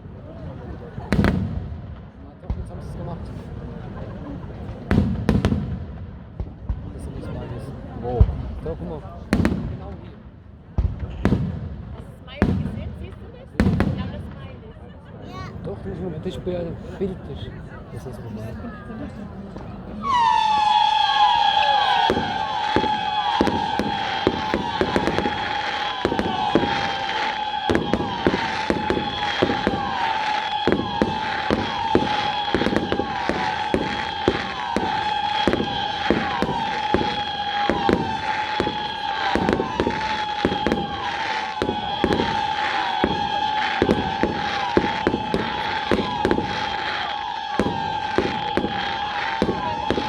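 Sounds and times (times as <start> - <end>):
fireworks bangs: 0.0 - 14.6, 15.4 - 50.0.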